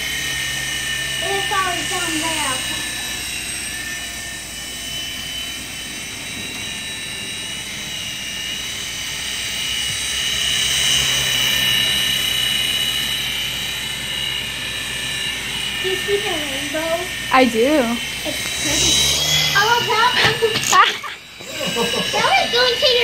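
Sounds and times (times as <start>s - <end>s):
toy helicopter rotors whining: 0.0s - 23.0s.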